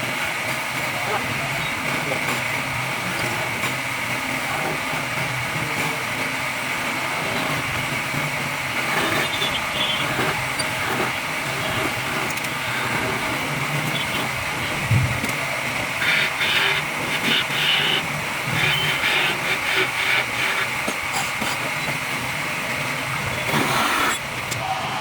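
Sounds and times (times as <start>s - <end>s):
woodworking power tool whining: 0.0s - 25.0s.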